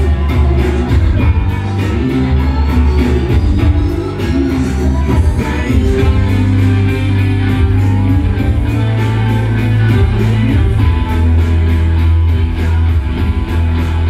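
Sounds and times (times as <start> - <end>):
bass line: 0.0 - 14.0
steady drum beat: 0.0 - 14.0
strummed electric guitar: 0.0 - 14.0.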